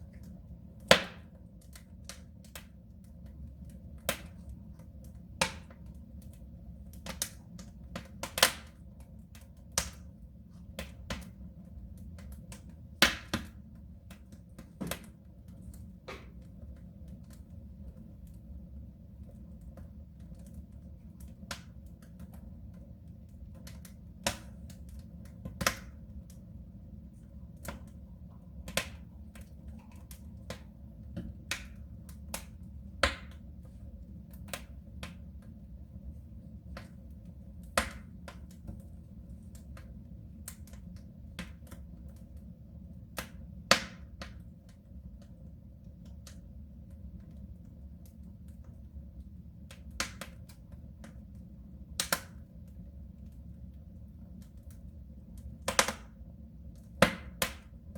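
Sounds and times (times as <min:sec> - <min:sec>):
wood fire burning in stove: 0:00.0 - 0:57.9.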